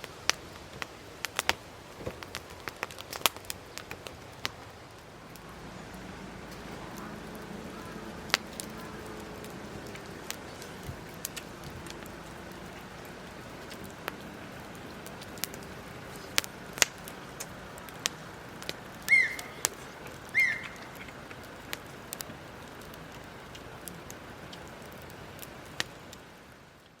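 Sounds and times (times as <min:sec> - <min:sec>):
campfire crackling and popping: 0:00.0 - 0:27.0
fire hiss: 0:00.0 - 0:27.0.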